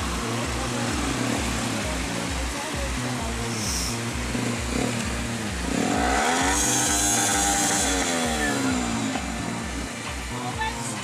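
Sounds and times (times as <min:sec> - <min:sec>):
low engine pulse: 0:00.0 - 0:11.0
motorcycle engine revving: 0:00.0 - 0:11.0.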